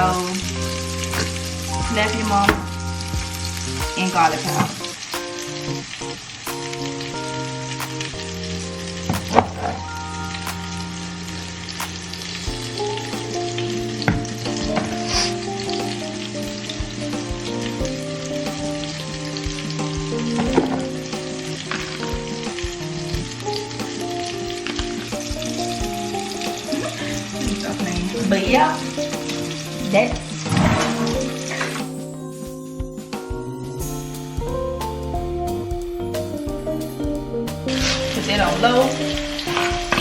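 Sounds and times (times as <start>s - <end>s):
shrimp sizzling in a skillet: 0.0s - 33.2s, 36.0s - 40.0s
music of sustained chords: 0.0s - 40.0s.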